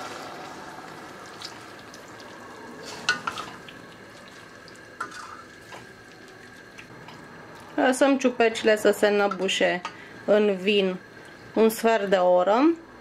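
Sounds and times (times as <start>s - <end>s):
food sizzling in a pot: 0.0s - 12.1s.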